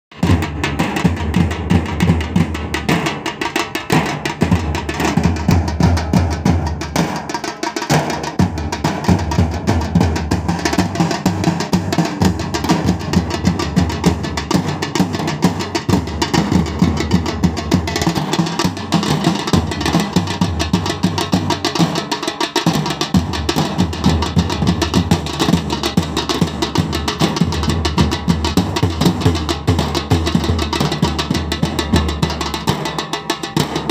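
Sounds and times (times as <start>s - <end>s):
snare drum: 0.1s - 33.9s
deep side drums beating: 0.2s - 33.9s.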